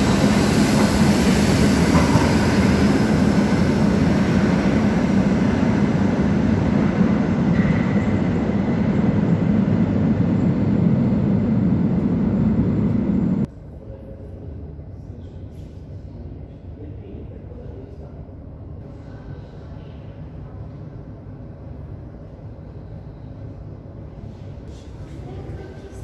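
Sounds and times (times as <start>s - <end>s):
train rumbling in station: 0.0s - 26.0s.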